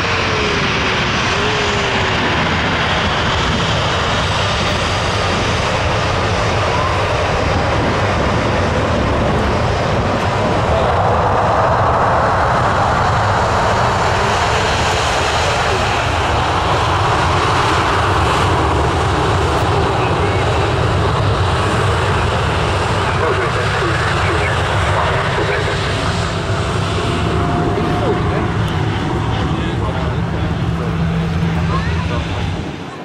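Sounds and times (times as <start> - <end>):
jet engines rumbling roar: 0.0 - 33.0.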